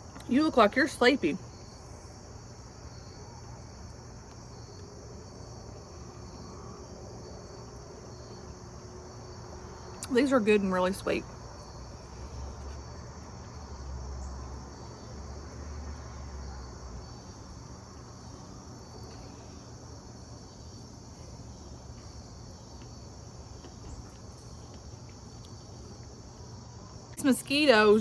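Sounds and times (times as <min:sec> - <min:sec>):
crickets and katydids chorus: 0:00.0 - 0:28.0.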